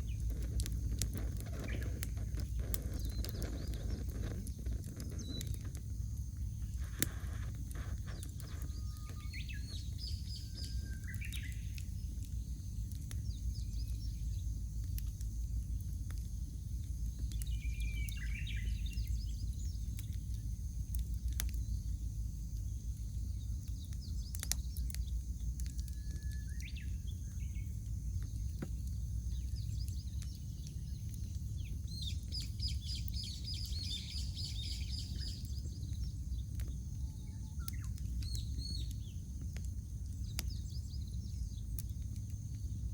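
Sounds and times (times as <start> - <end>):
campfire crackling and popping: 0.0 - 42.9
low steady rumble: 0.0 - 42.9
small birds calling: 0.0 - 42.9.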